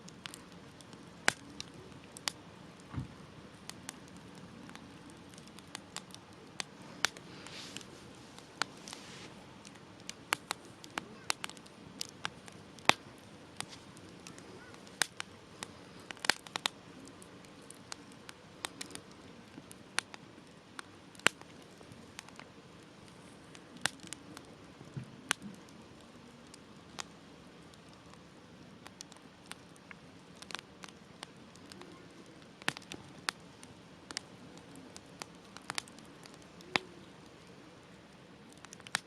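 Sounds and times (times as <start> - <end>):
campfire crackling and popping: 0.0 - 39.0
faint hiss of burning: 0.0 - 39.0.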